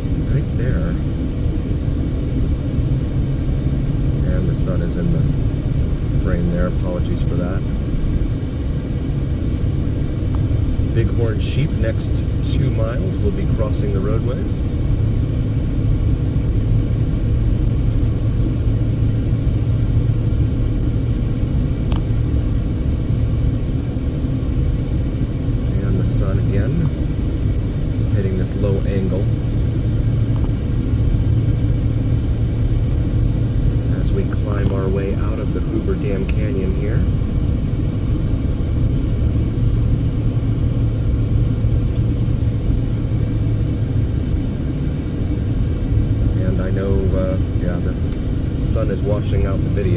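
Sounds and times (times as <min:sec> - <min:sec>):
constant low hum: 0:00.0 - 0:49.9
engine and tyre rumble: 0:00.0 - 0:49.9.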